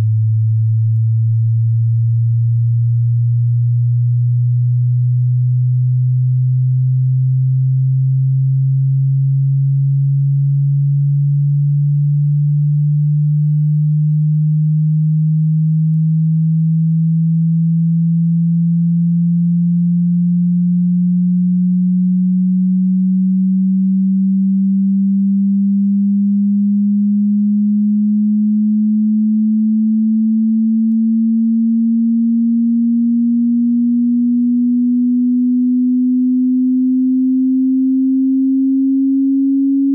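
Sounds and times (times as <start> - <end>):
sine tone sweeping upward: 0.0 - 39.9.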